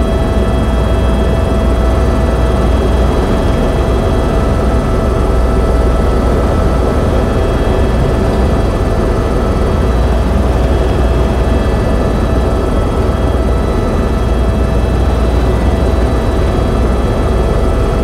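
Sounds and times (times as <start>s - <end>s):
helicopter rotor drone: 0.0s - 18.0s
turbine whine: 0.0s - 18.0s.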